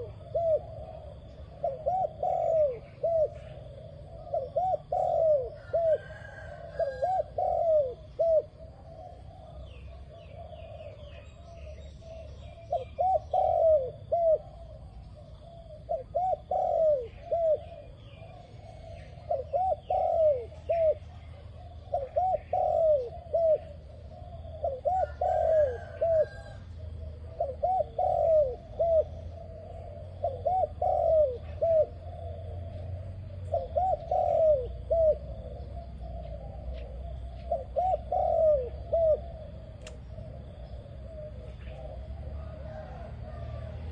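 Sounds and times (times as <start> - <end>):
faint bird chirps: 0.0 - 43.7
dove cooing: 0.0 - 43.9.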